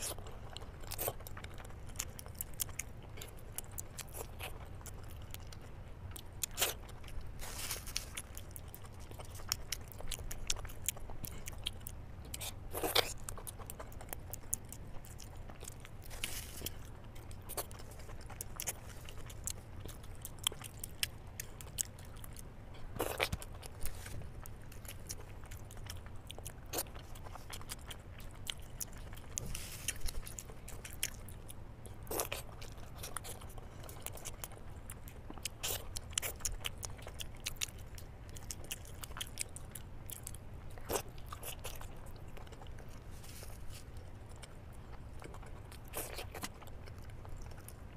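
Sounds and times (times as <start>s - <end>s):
chewing with wet mouth clicks: 0.0s - 47.9s
steady low hum: 0.0s - 47.9s.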